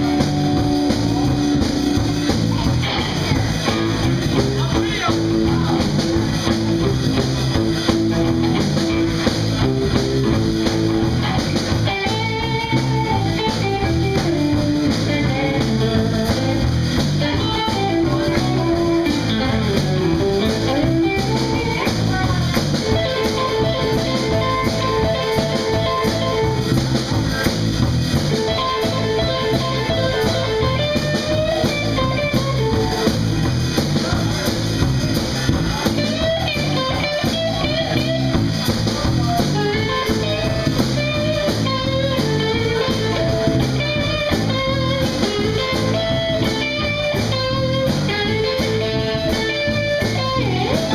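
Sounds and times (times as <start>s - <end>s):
electric guitar lead: 0.0s - 50.9s
live blues band playing: 0.0s - 50.9s.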